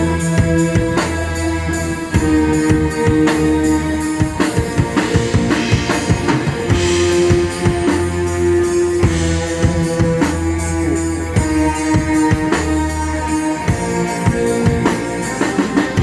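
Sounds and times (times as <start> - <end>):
drum kit beat: 0.0 - 16.0
live band playing instrumental: 0.0 - 16.0.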